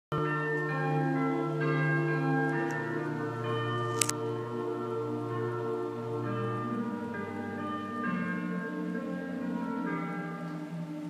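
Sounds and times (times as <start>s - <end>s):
music of sustained chords: 0.2s - 11.0s.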